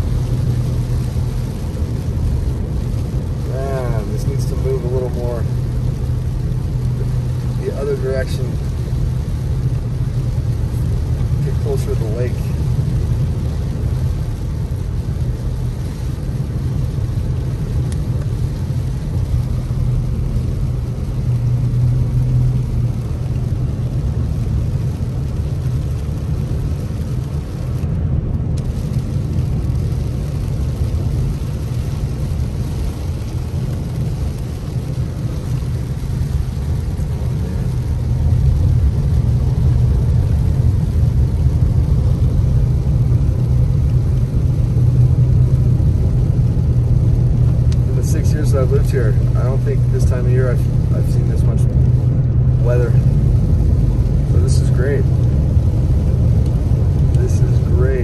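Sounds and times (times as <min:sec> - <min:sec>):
car road rumble: 0:00.0 - 0:58.0
tyres hissing on wet road: 0:00.0 - 0:58.0.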